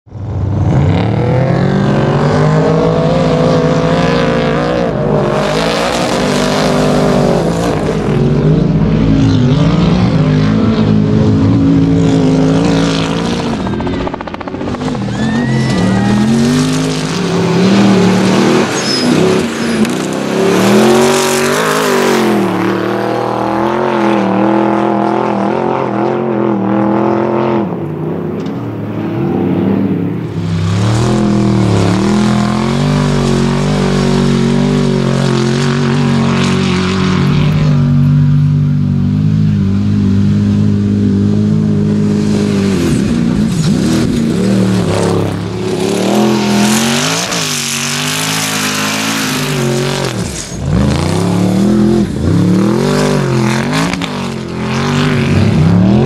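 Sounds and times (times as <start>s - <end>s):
truck engine revving: 0.1s - 56.0s.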